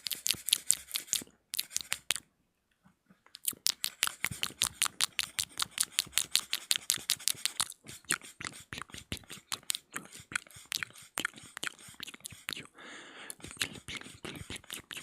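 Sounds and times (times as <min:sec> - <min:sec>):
tongue and lip clicks: 0:00.0 - 0:02.3, 0:03.3 - 0:12.7, 0:13.3 - 0:15.0.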